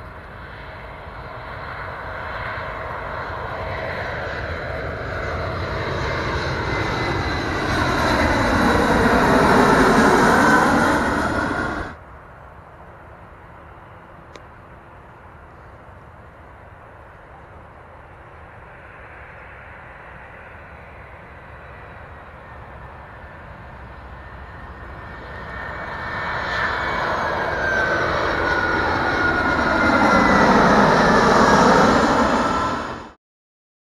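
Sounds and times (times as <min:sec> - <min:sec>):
high jet engine whine: 0:00.0 - 0:33.2
jet airliner passing overhead: 0:00.0 - 0:33.2.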